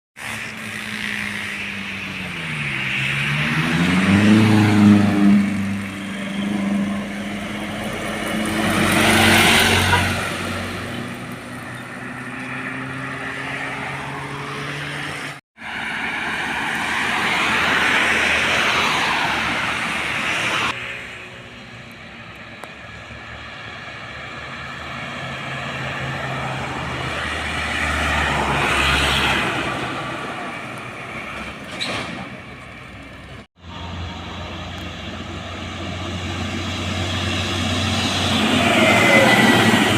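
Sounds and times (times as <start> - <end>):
heavy trucks passing: 0.2 - 39.9.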